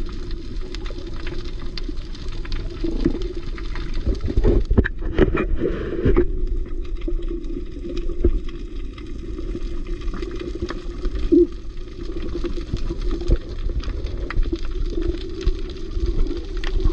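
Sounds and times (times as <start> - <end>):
short clicks and crackles: 0.0 - 16.9
underwater rumble of moving water: 0.0 - 16.9.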